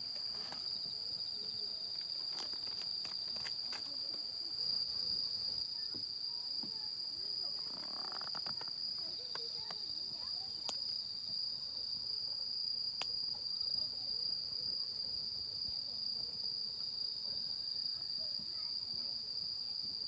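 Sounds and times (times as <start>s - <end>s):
high-pitched insect chorus trilling: 0.0s - 20.0s.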